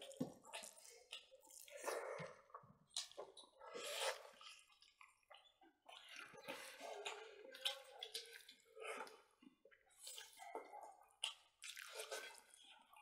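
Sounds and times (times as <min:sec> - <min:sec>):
wet chewing and lip-smacking: 0:00.0 - 0:13.0.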